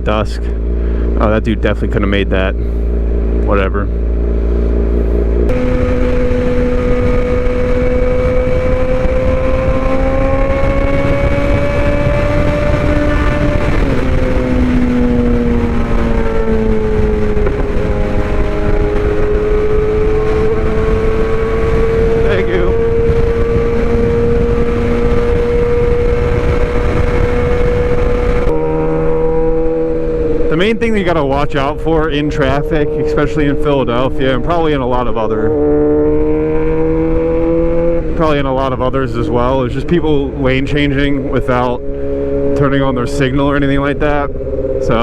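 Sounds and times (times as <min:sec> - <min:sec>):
motorcycle engine: 0:00.0 - 0:45.0
wind noise: 0:00.0 - 0:45.0.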